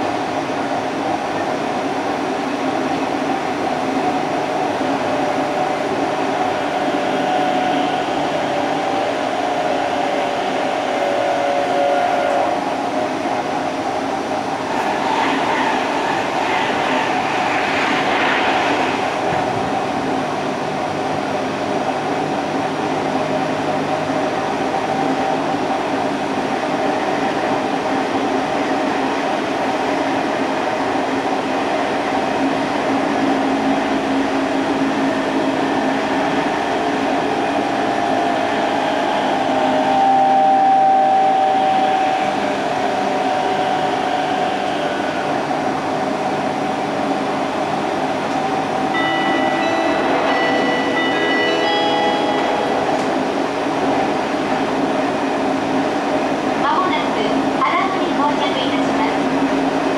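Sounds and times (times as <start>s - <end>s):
train rail and running noise: 0.0s - 59.9s.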